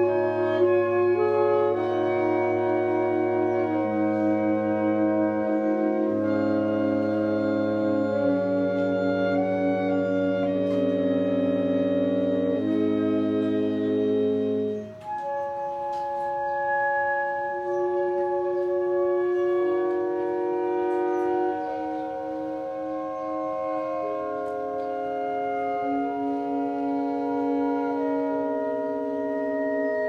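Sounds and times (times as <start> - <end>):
concert band holding chords: 0.0 - 30.0.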